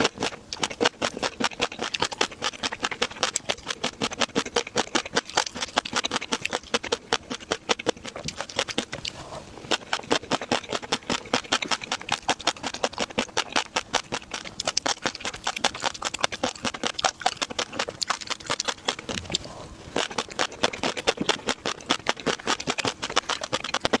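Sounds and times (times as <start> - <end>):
wet crunchy chewing: 0.0 - 24.0.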